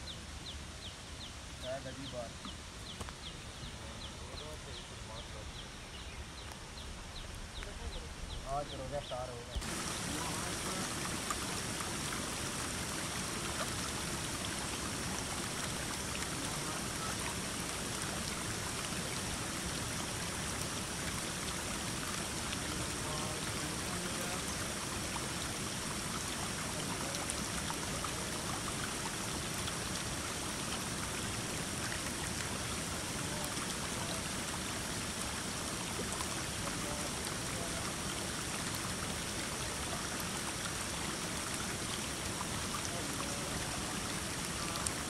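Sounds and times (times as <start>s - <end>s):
stream water flowing: 0.0s - 45.0s.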